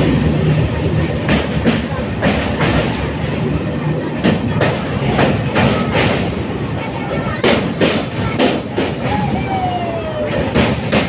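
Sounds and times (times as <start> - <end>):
wheels clacking over rail joints: 0.0 - 9.6, 10.2 - 11.0
train rumbling: 0.0 - 11.0.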